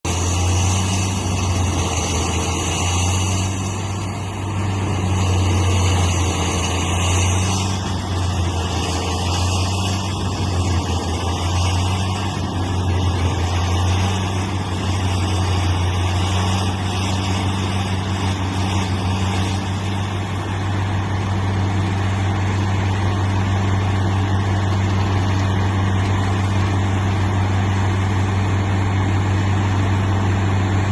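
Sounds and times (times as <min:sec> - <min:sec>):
wood chipper engine running: 0:00.0 - 0:30.9.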